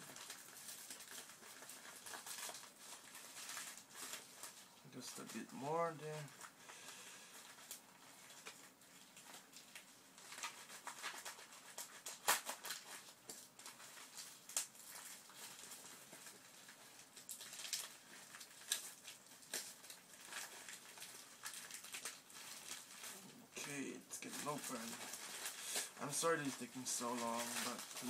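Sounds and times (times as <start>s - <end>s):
packaging crinkling and scratching: 0.0s - 28.0s.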